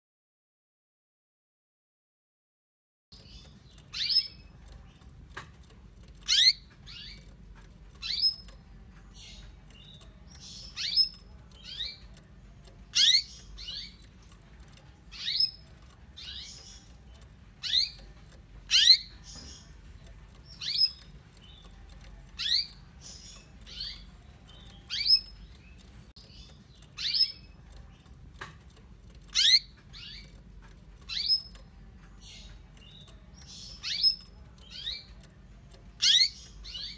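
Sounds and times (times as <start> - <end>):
canary chirping: 3.1 - 36.9.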